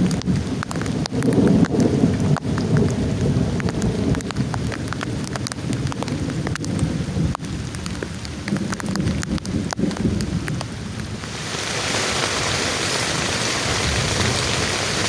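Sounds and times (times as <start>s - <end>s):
heavy rain falling: 0.0s - 15.0s
low rumble of thunder: 0.0s - 15.0s
rain drop impacts: 0.0s - 15.0s.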